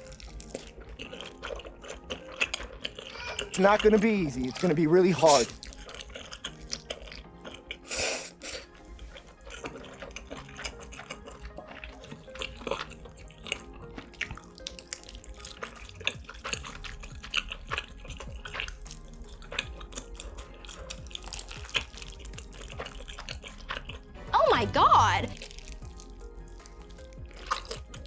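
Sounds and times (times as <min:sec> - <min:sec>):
chewing and mouth clicks: 0:00.0 - 0:24.3, 0:25.3 - 0:28.0
faint background music: 0:00.0 - 0:28.0.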